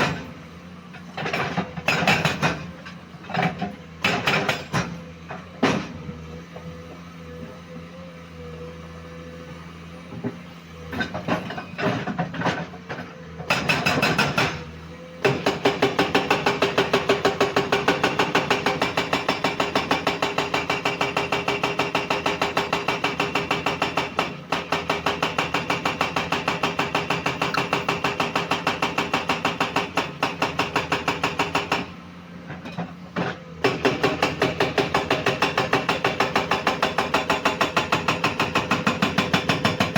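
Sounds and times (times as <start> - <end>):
excavator engine hum: 0.0 - 39.9.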